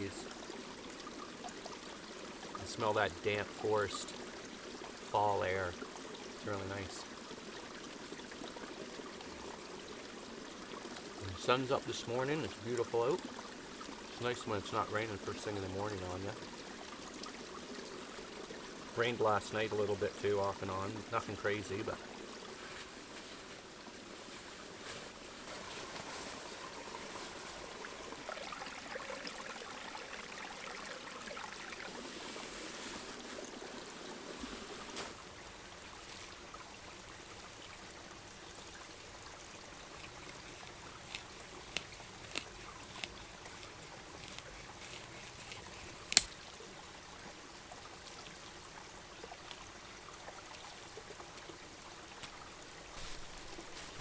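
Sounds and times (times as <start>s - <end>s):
brook babbling and trickling: 0.0s - 54.0s.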